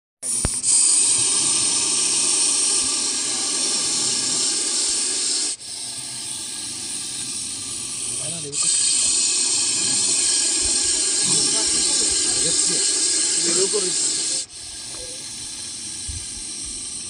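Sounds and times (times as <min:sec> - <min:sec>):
snake hissing: 0:00.2 - 0:17.0.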